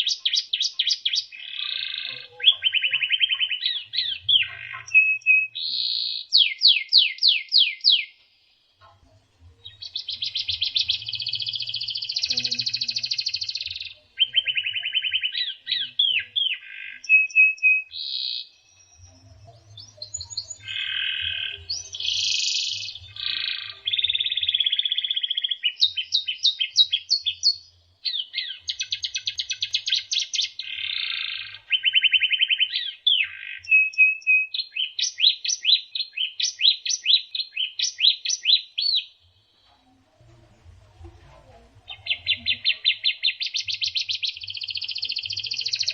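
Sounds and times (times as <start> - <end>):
bird singing varied trills: 0.0 - 40.4, 41.6 - 45.9.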